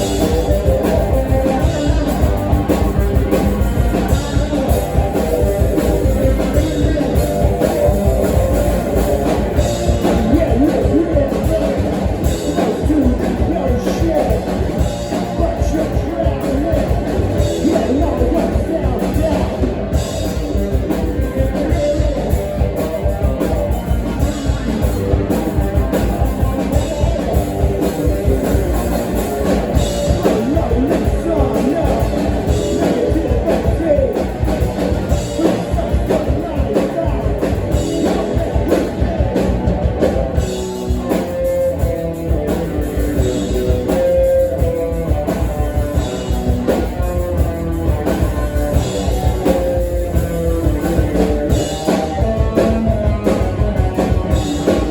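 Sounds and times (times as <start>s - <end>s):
drum kit pounding: 0.0s - 54.9s
live rock band playing: 0.0s - 54.9s
person singing: 0.0s - 54.9s.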